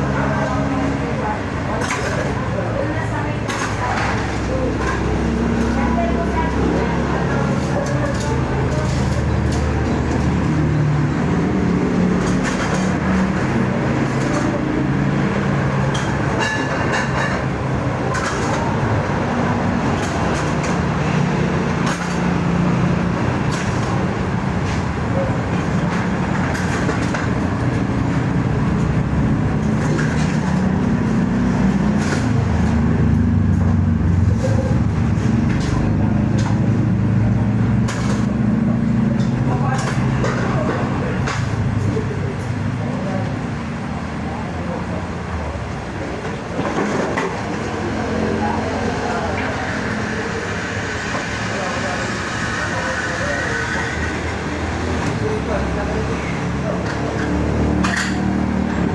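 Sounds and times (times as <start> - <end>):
road noise: 0.0 - 58.9
vehicle engine hum: 0.0 - 58.9.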